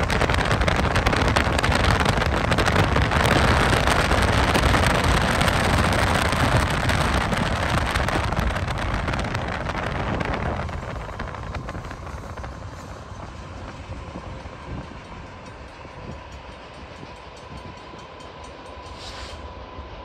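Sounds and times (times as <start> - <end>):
freight train rumble: 0.0 - 20.0
wind and road noise: 0.0 - 20.0.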